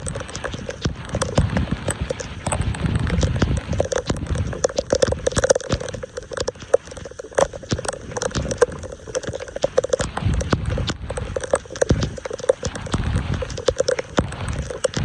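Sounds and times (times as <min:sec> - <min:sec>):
debris wet clicks and knocks: 0:00.0 - 0:15.0
floodwater gurgling and splashing: 0:00.0 - 0:15.0.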